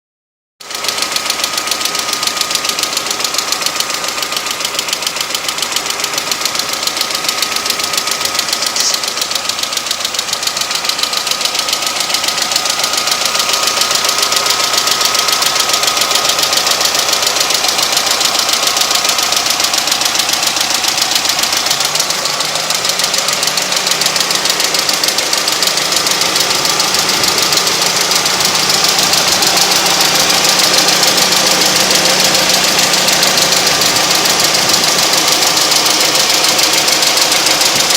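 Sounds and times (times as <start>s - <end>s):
car engine running: 0.6s - 37.9s
fast high engine tapping: 0.7s - 37.9s
low engine knock: 0.7s - 37.9s.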